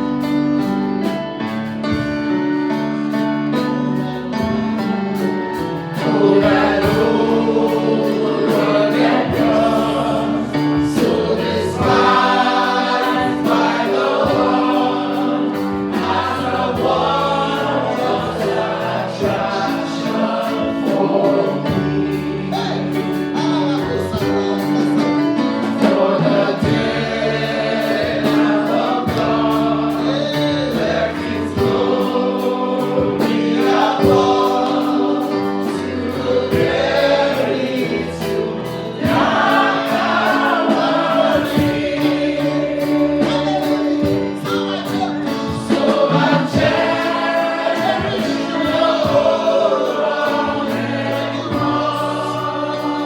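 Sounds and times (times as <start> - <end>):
gospel choir singing: 0.0 - 53.0
instrumental accompaniment with beat: 0.0 - 53.0.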